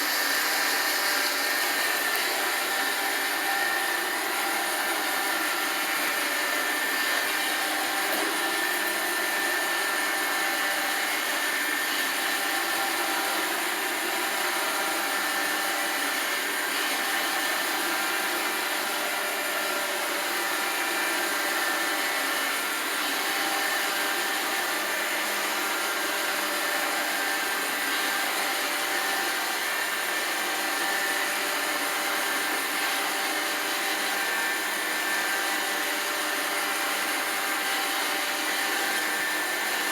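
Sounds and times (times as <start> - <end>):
robot vacuum running: 0.0 - 39.9.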